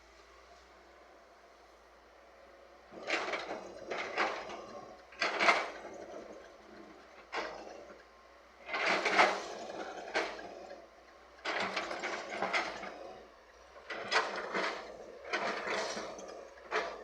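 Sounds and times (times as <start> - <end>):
machinery clattering and scraping soil: 2.4 - 17.0.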